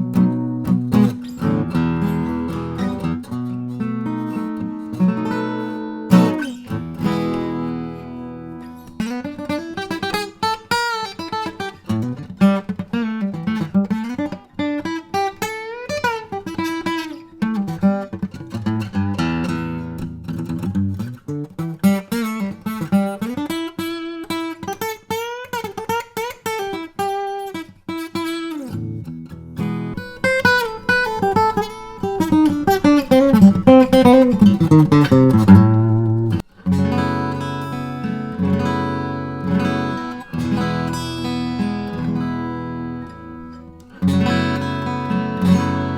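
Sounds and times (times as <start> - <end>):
acoustic guitar playing: 0.0 - 45.9.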